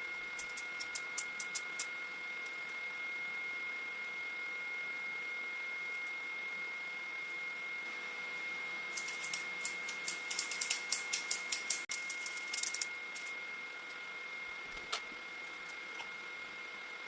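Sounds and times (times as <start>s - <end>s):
printer high-pitched whine: 0.0s - 17.0s.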